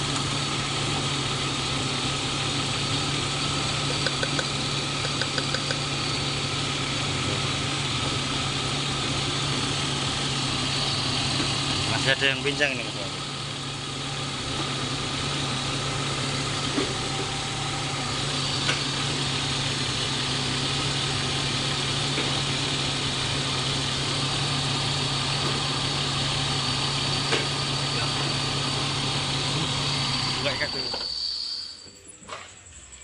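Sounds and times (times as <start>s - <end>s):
misfiring car engine idling: 0.0s - 31.8s.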